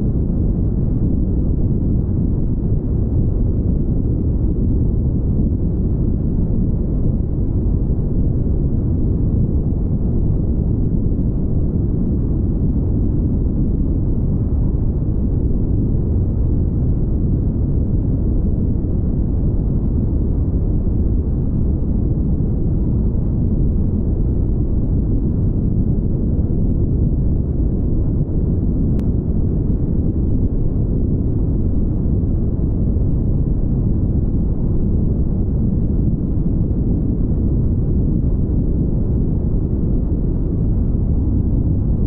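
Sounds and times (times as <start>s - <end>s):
car road and wind noise: 0.0s - 42.0s.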